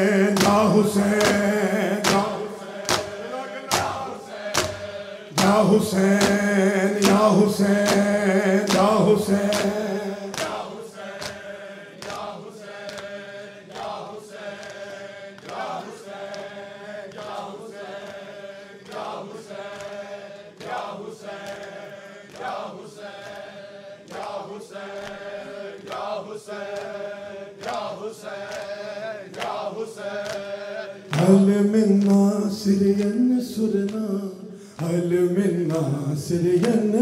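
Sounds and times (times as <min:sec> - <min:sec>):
men chanting together: 0:00.0 - 0:37.0
hands slapping chests: 0:00.3 - 0:31.4.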